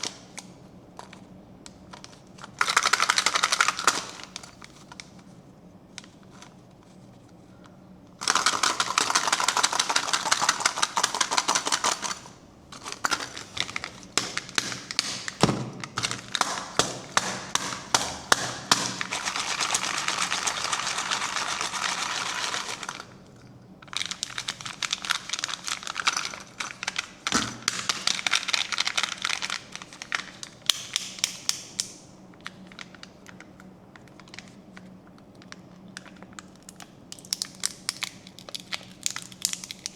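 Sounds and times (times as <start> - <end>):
wrapper crinkling: 1.0 - 7.2, 8.2 - 31.8, 32.4 - 39.9.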